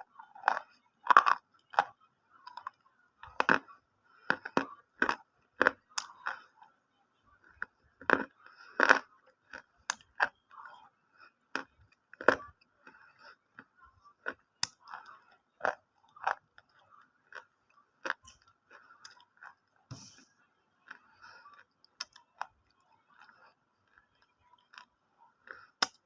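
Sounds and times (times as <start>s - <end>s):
person chewing crunchy food: 0.0s - 6.8s, 7.4s - 26.0s.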